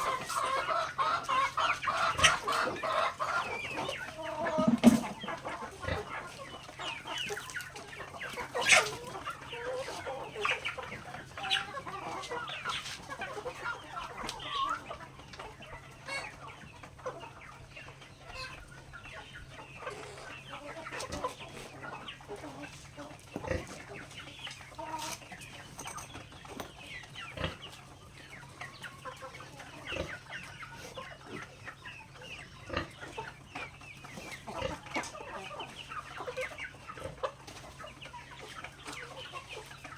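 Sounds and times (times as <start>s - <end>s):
chickens clucking softly: 0.0s - 39.9s.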